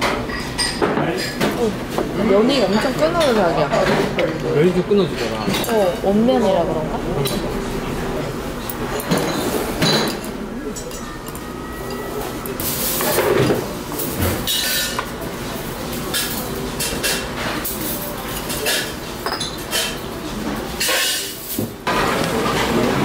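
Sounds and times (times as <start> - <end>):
busy indoor hum: 0.0 - 23.0.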